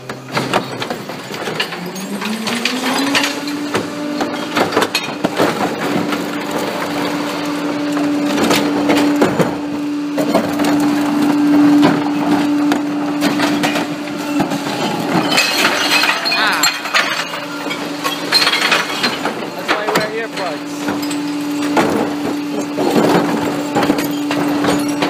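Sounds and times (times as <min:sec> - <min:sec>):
truck hum: 0:00.0 - 0:25.0
recyclables clattering: 0:00.2 - 0:25.0.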